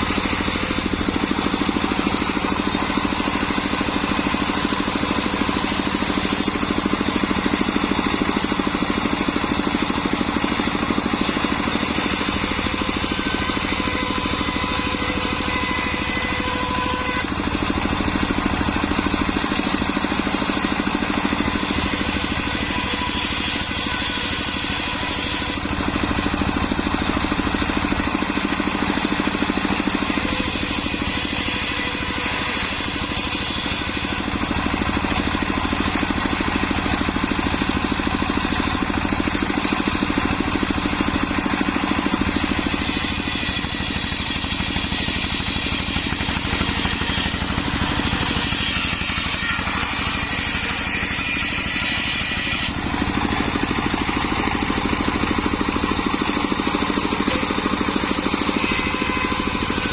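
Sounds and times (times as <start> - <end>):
circular saw cutting wood: 0.0 - 59.9
higher-pitched saw whine: 0.0 - 59.9.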